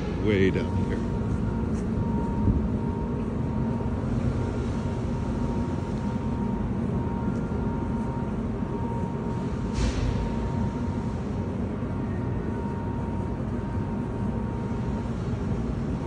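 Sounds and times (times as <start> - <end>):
factory hall rumble: 0.0 - 16.0
faint steady whine: 0.0 - 16.0.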